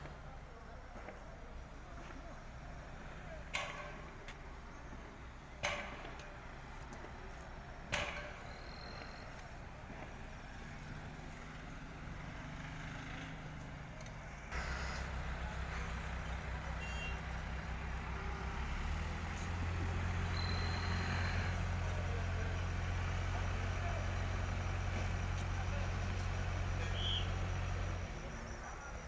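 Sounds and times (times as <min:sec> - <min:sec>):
crane diesel engine running: 0:00.0 - 0:29.0.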